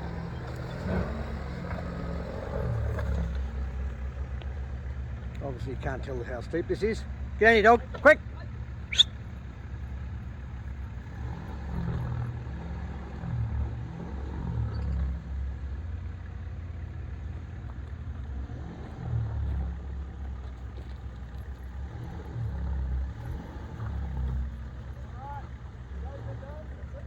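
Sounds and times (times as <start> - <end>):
off-road vehicle engine climbing: 0.0 - 27.0.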